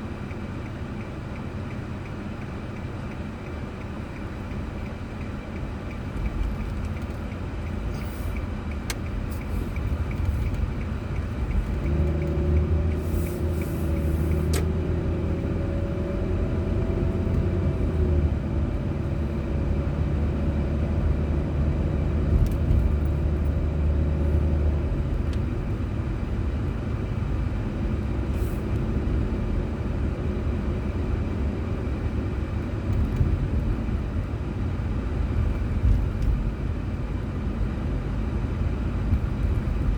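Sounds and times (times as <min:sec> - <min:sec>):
engine and road noise: 0:00.0 - 0:39.9
deep engine drone: 0:03.4 - 0:39.9.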